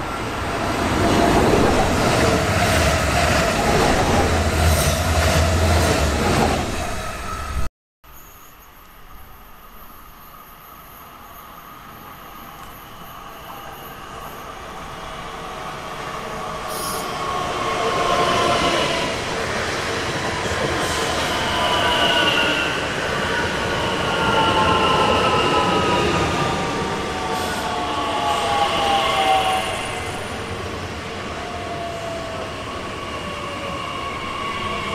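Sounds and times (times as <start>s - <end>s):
train passing: 0.0s - 7.7s, 9.1s - 34.9s.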